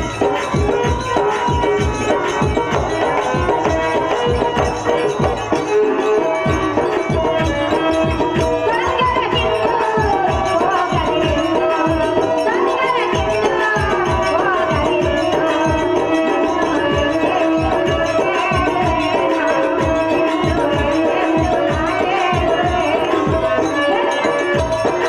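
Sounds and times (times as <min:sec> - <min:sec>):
hand drum beating: 0:00.0 - 0:25.0
held steady notes: 0:00.0 - 0:25.0
wavering melody: 0:00.0 - 0:25.0.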